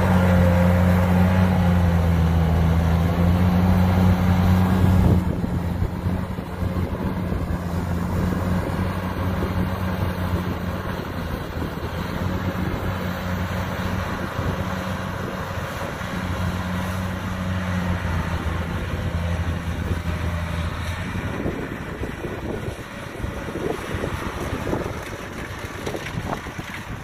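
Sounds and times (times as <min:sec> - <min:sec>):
diesel engine droning: 0:00.0 - 0:27.0
harvester machinery rushing: 0:00.0 - 0:27.0.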